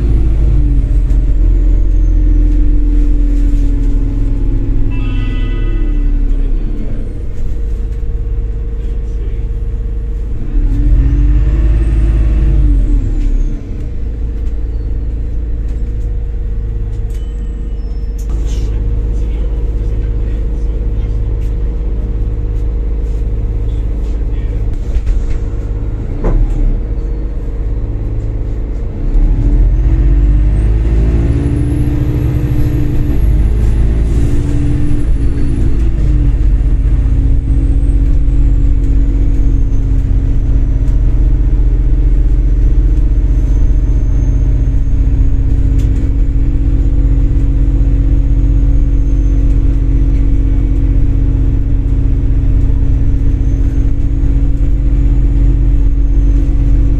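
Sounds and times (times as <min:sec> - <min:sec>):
bus engine: 0:00.0 - 0:56.9.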